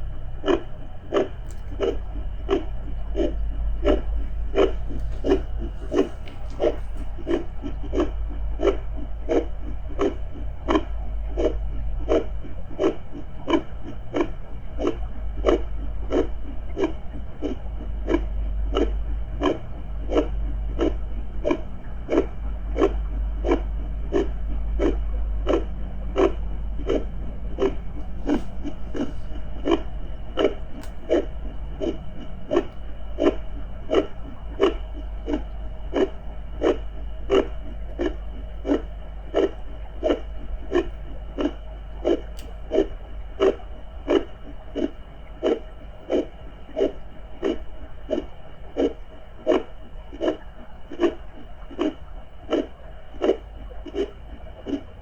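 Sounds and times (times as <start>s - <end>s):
amplified heartbeat: 0.0s - 55.0s
deep underwater rumble: 0.0s - 55.0s.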